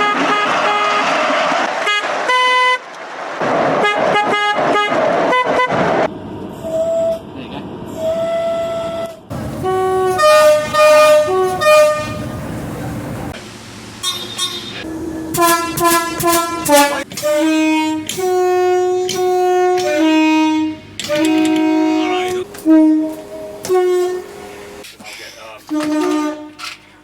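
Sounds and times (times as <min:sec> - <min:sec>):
two-tone train horn: 0:00.0 - 0:02.8, 0:03.8 - 0:06.0, 0:06.6 - 0:07.2, 0:08.0 - 0:12.5, 0:14.0 - 0:24.8, 0:25.7 - 0:26.8
train horn blasts: 0:00.0 - 0:02.9, 0:03.8 - 0:07.2, 0:08.0 - 0:12.5, 0:14.0 - 0:24.8, 0:25.7 - 0:26.8.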